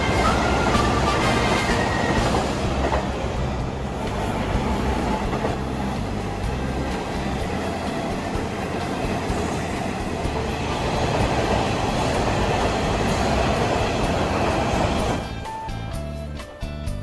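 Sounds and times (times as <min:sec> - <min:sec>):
train wheels rushing on rails: 0:00.0 - 0:15.5.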